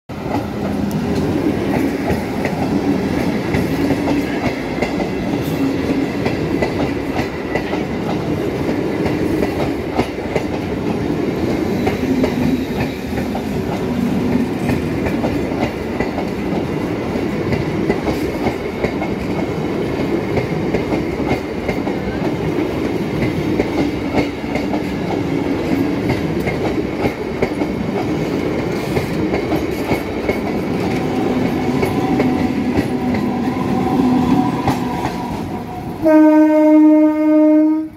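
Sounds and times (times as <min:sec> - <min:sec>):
clickety-clack over rail joints: 0:00.1 - 0:36.2
train wheels rumbling on rails: 0:00.1 - 0:37.9.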